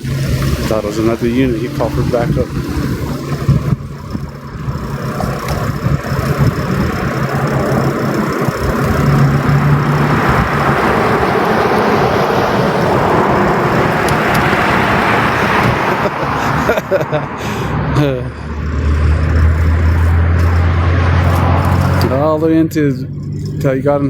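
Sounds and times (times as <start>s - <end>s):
traffic road noise: 0.0s - 24.0s
vehicle engine humming: 0.0s - 24.0s.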